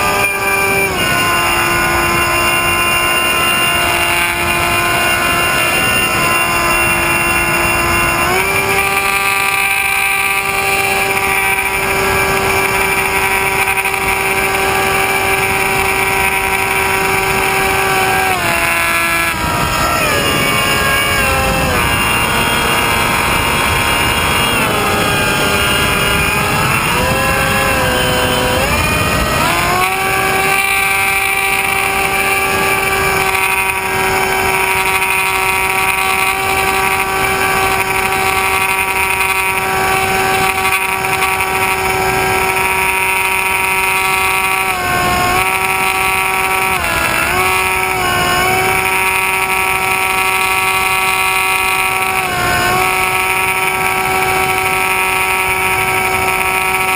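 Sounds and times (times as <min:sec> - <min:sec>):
model plane motor whine: 0:00.0 - 0:56.9.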